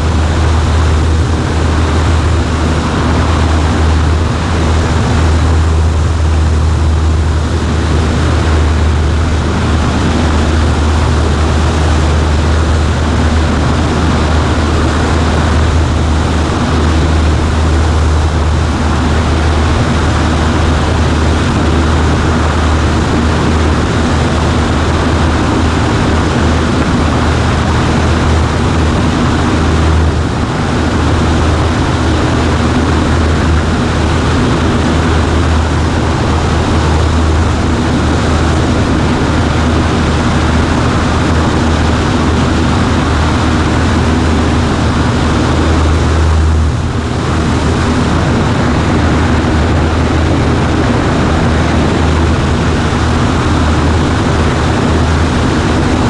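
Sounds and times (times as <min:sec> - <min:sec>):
propeller plane engine droning: 0:00.0 - 0:56.0
rush of air noise: 0:00.0 - 0:56.0.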